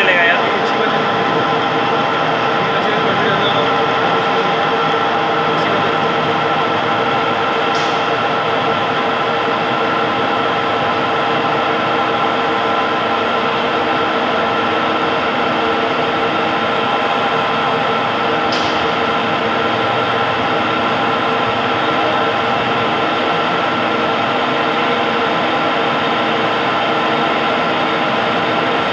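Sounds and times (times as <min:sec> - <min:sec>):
lathe running: 0:00.0 - 0:28.9.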